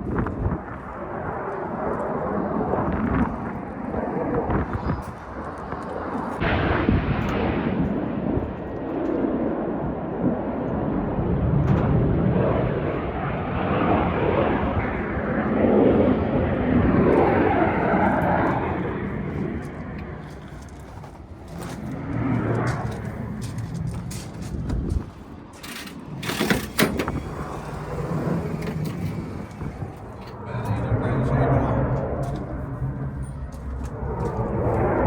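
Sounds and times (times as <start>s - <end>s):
jet aircraft rumbling overhead: 0.0s - 35.0s.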